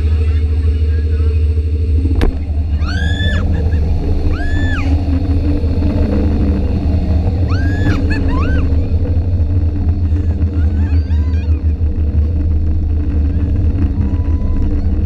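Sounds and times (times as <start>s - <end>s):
boat engine: 0.0s - 15.0s
wind on microphone: 1.6s - 15.0s.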